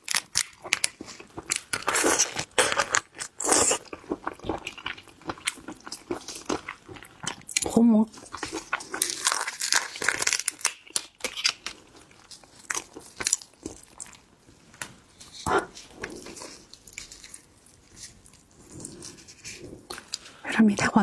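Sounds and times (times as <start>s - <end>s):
crunchy chewing close up: 0.0s - 14.3s, 15.2s - 20.4s.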